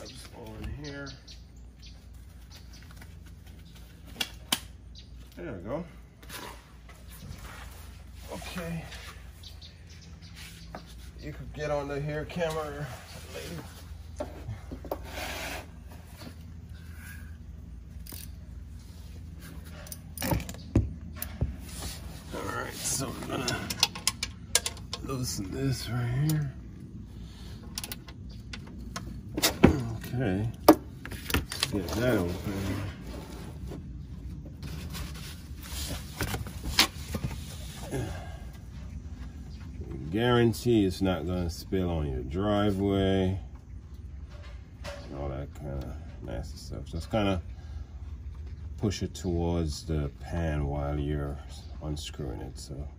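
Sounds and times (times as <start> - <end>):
low steady hum: 0.0 - 52.9.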